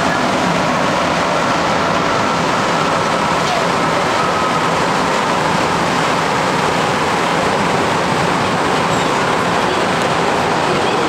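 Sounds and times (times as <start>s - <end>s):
metro train running noise: 0.0s - 11.0s.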